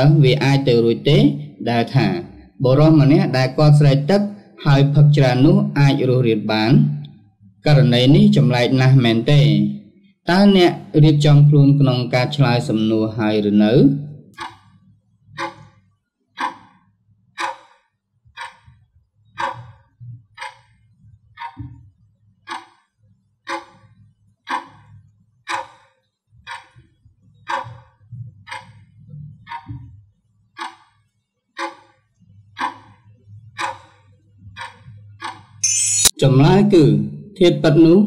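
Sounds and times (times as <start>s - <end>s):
clock ticking: 0.0s - 7.1s, 7.7s - 15.8s, 16.4s - 36.2s.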